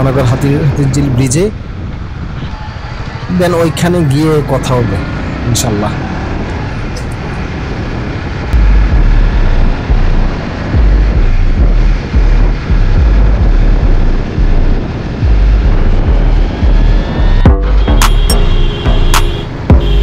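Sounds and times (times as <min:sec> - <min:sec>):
wind buffeting microphone: 0:00.0 - 0:19.8
motorcycle engine and road noise: 0:00.0 - 0:20.0.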